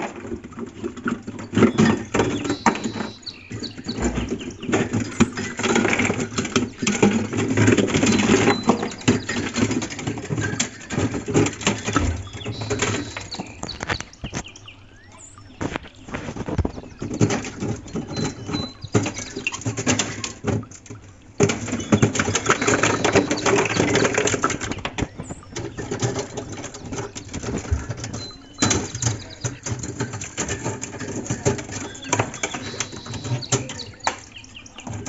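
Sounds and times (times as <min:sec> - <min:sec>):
ice crunching and clattering: 0:00.0 - 0:14.7, 0:15.6 - 0:35.0.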